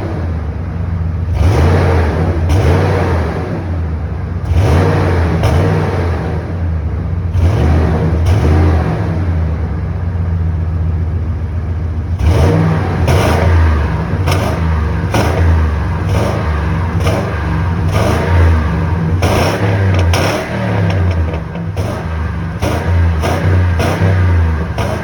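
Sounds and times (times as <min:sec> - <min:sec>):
engine exhaust idling: 0:00.0 - 0:25.0
engine throttle blips: 0:00.0 - 0:25.0.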